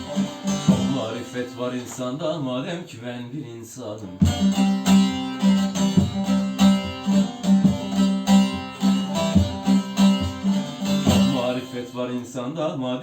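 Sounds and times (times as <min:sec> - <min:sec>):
strummed string instrument: 0:00.0 - 0:13.0.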